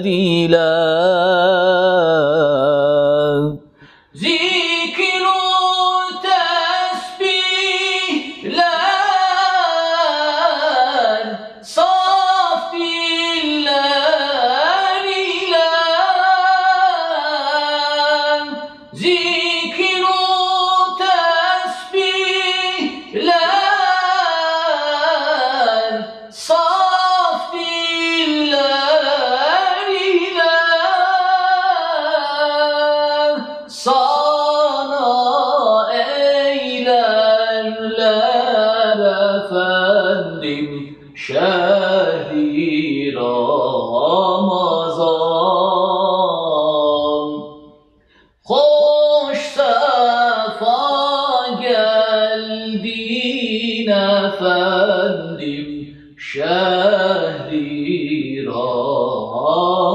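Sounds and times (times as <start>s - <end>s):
man singing unaccompanied: 0.0s - 59.9s.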